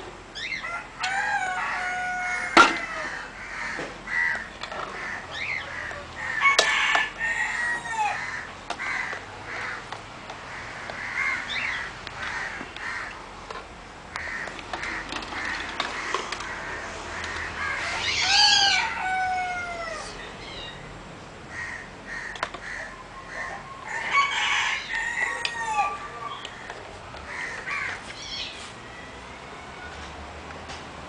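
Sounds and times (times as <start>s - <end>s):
long arching bird calls: 0.3s - 6.6s, 7.2s - 13.4s, 14.1s - 20.9s, 21.5s - 28.6s.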